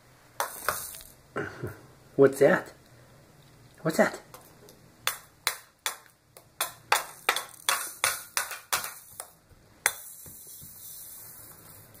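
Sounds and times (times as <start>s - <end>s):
steady hiss: 0.0s - 5.2s, 6.2s - 12.0s.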